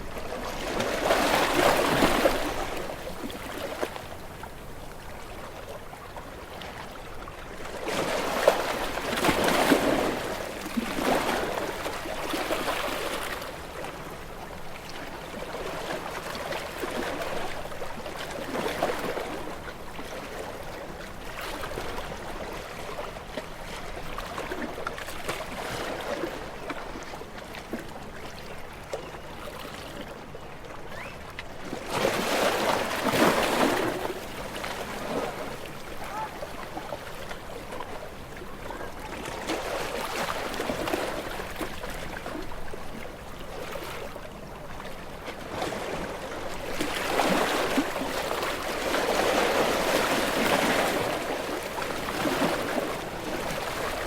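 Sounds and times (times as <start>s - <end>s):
gentle waves washing ashore: 0.0s - 54.0s.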